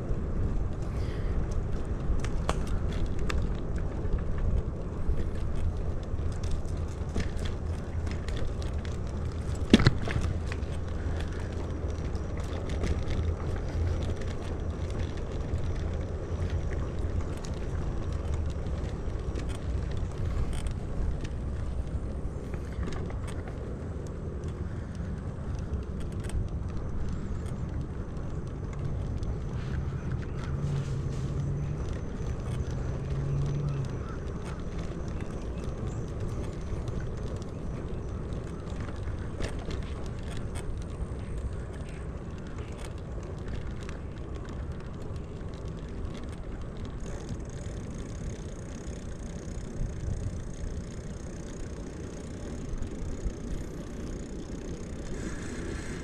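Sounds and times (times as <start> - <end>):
bicycle tyre noise: 0.0 - 56.0
small clicks: 0.4 - 56.0.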